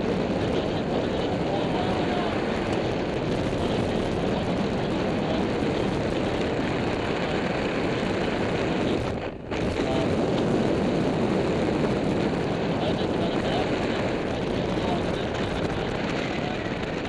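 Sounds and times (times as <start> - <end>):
airflow buffeting microphone: 0.0 - 17.0.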